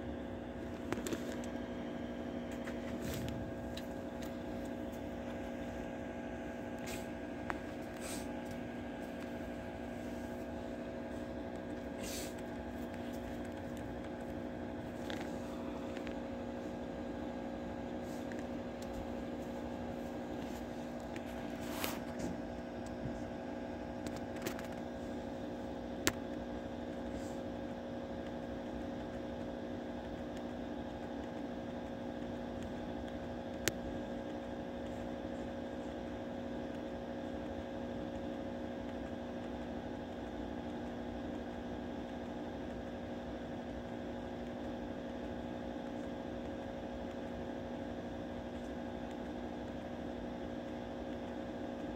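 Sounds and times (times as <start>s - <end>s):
steady electrical hum: 0.0s - 51.9s.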